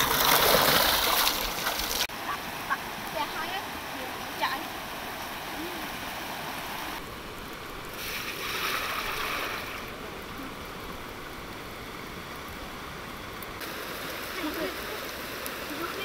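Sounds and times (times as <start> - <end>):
water rushing over stones: 0.0 - 16.0.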